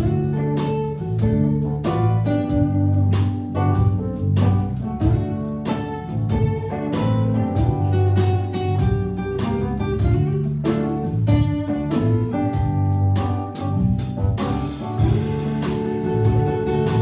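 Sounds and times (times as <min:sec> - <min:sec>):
live band playing instrumental: 0:00.0 - 0:17.0.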